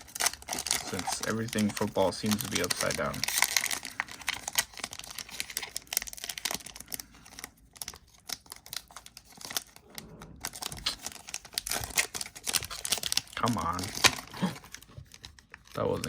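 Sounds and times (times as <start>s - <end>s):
foil wrapper crinkling: 0.0s - 16.0s.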